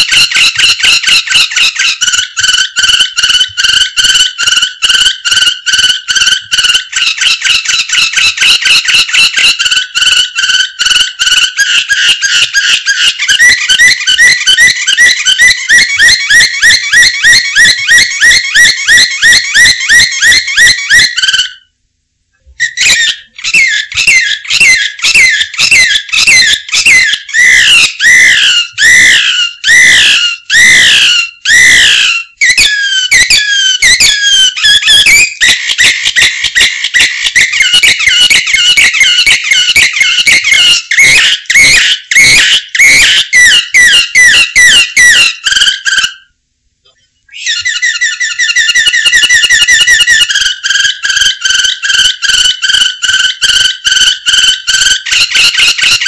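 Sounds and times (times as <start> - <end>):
canary singing: 0.0 - 21.7, 22.4 - 56.0.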